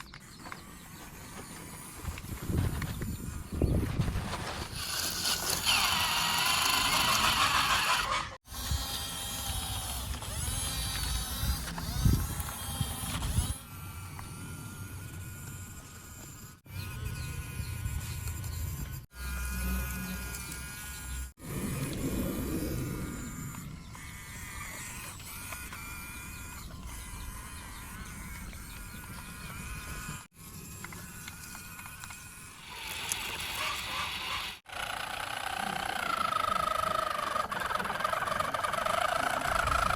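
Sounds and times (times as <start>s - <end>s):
toy motors whirring and clattering: 0.0s - 21.4s, 23.2s - 39.9s.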